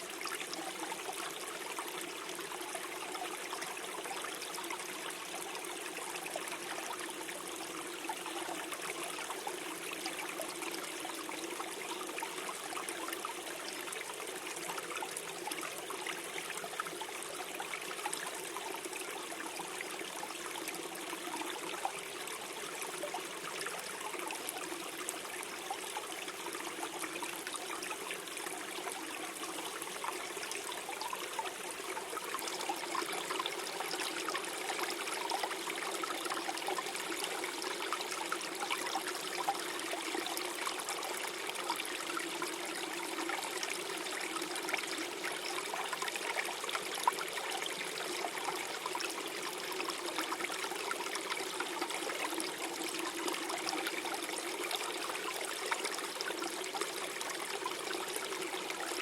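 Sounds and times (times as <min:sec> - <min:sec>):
stream gurgling over stones: 0:00.0 - 0:59.0.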